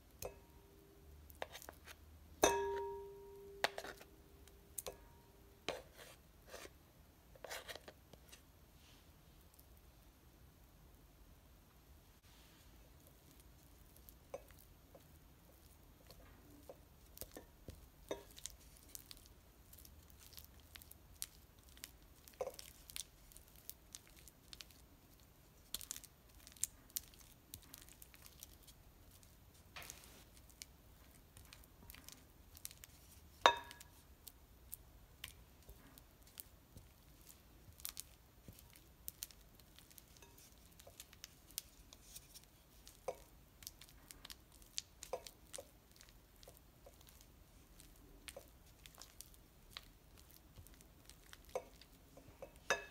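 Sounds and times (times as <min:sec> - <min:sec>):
spatula squishing butter in glass bowl: 0:00.0 - 0:06.7, 0:12.7 - 0:52.9.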